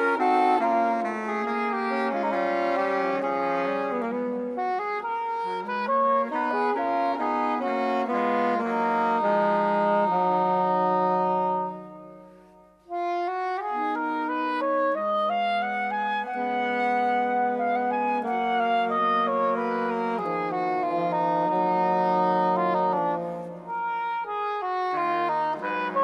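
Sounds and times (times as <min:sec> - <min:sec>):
wind band playing: 0:00.0 - 0:26.0.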